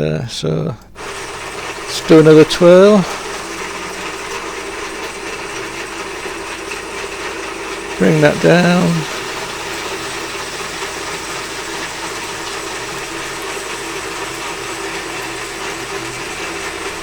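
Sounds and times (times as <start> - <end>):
geared motor running: 0.8 - 17.0.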